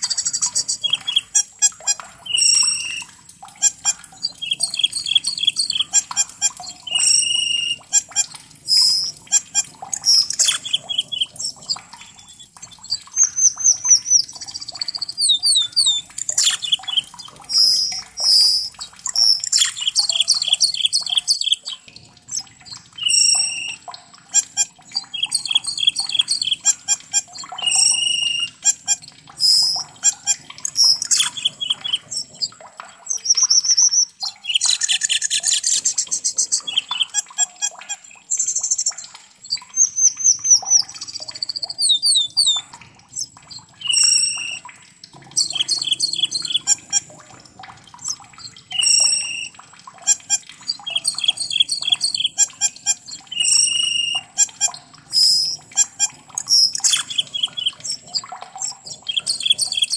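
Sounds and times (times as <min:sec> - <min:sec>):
starling chirping and whistling: 0:00.0 - 0:22.4, 0:23.0 - 0:32.5, 0:33.1 - 0:44.6, 0:45.3 - 0:47.1, 0:48.0 - 0:59.9.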